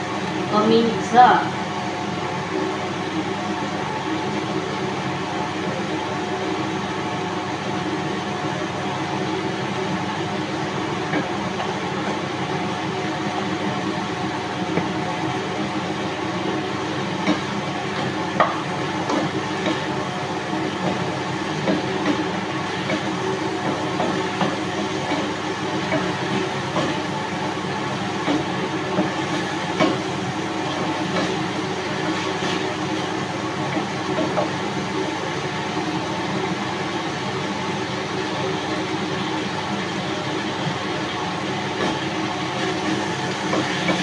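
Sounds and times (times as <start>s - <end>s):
exhaust fan hum: 0.0s - 44.0s.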